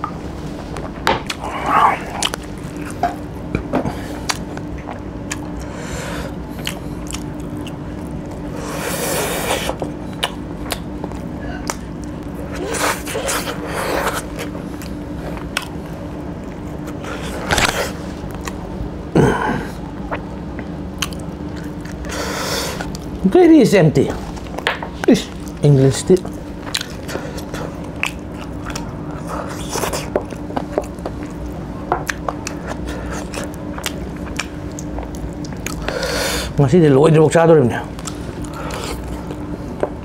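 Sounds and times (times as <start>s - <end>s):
steady low hum: 0.0s - 40.0s
chewing and sucking meat: 1.3s - 3.4s, 4.0s - 18.7s, 20.9s - 23.2s, 25.3s - 36.6s, 37.9s - 39.8s.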